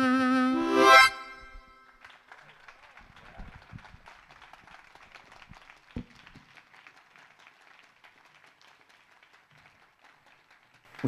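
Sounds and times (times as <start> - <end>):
audience applause: 2.0 - 11.0.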